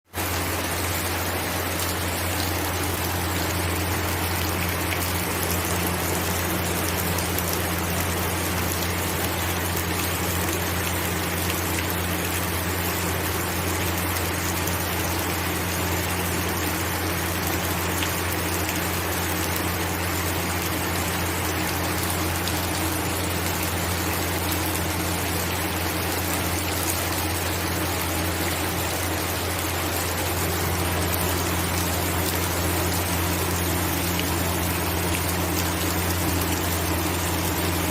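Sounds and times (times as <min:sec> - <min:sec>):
steady rain falling: 0:00.1 - 0:37.9
constant low hum: 0:00.2 - 0:37.9.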